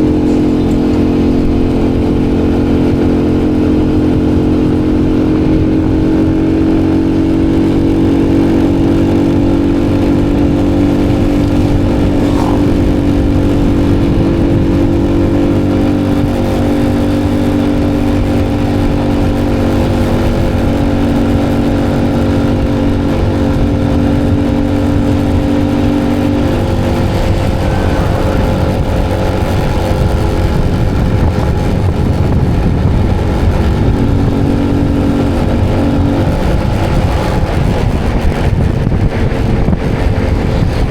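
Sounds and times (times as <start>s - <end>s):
motorcycle engine cruising: 0.0s - 40.9s
wind buffeting microphone: 0.0s - 40.9s.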